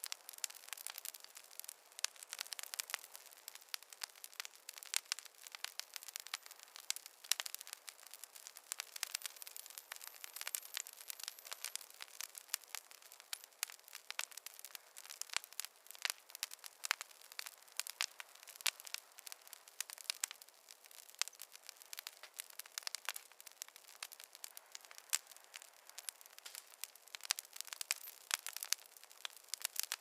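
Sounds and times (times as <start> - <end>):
fire crackling: 0.0 - 30.0.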